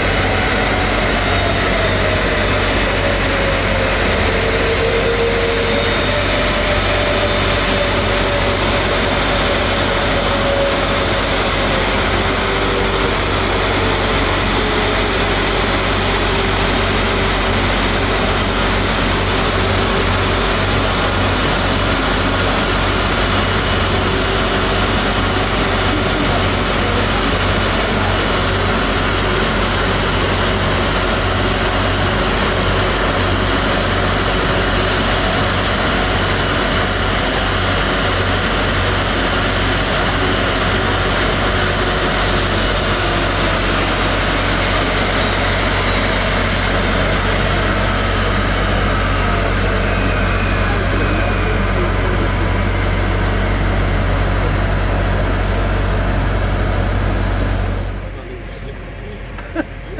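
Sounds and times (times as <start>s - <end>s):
jet engines whining at taxi power: 0.0s - 59.9s.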